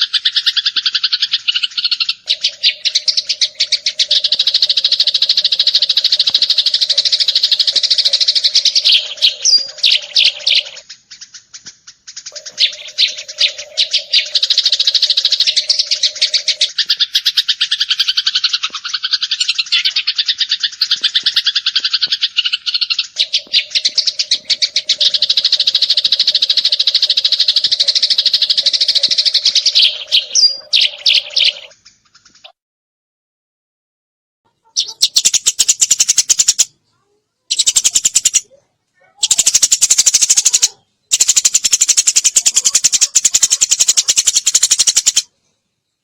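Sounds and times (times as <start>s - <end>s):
sparrows chirping rapidly: 0.0s - 32.5s, 34.6s - 45.3s.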